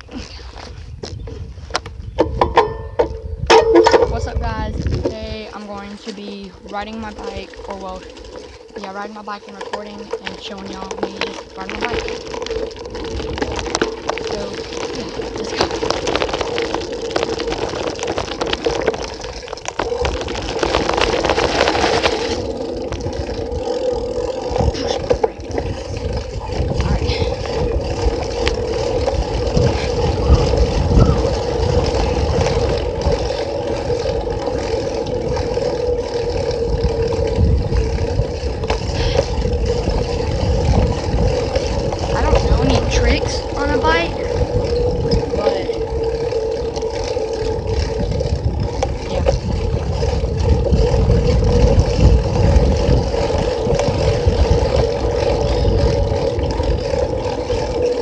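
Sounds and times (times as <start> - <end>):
bicycle tyres rolling: 0.0 - 58.0
wind rumble: 0.0 - 58.0
steady hum: 2.3 - 58.0.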